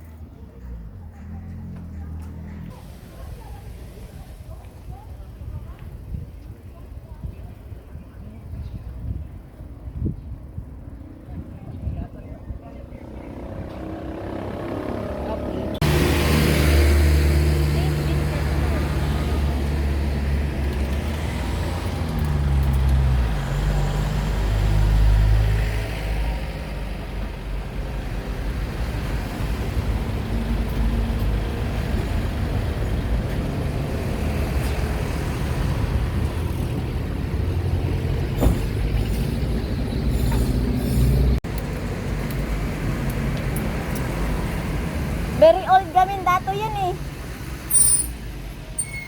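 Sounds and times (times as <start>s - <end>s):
road noise: 0.0s - 49.0s.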